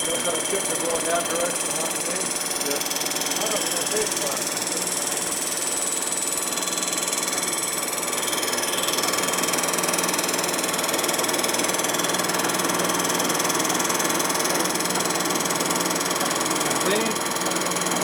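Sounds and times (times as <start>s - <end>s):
metal-cutting machine running: 0.0s - 18.0s.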